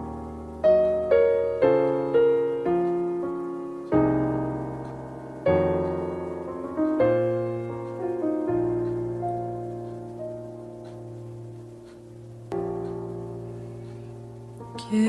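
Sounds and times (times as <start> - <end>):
piano playing: 0.0 - 15.0.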